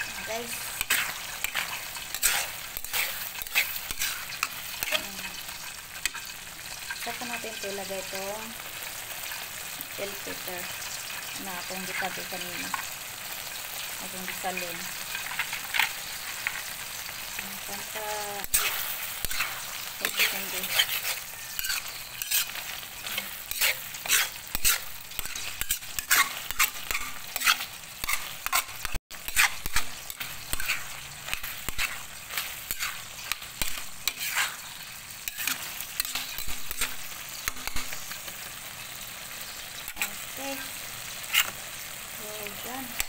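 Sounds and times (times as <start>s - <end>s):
food sizzling in a wok: 0.0s - 43.0s
metal spatula scraping a wok: 0.0s - 43.0s.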